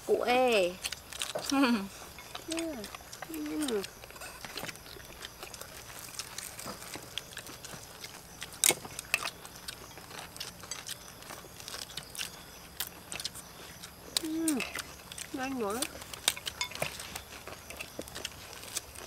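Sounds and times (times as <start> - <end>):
people chewing: 0.3 - 19.0.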